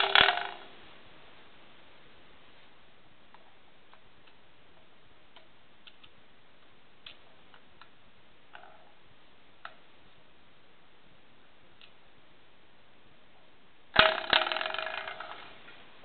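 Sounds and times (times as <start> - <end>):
faint hiss: 0.0 - 14.1.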